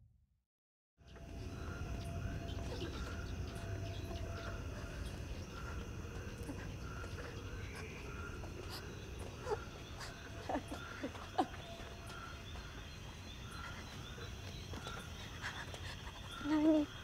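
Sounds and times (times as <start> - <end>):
insect chirps: 1.0 - 17.0
insects humming: 1.0 - 17.0.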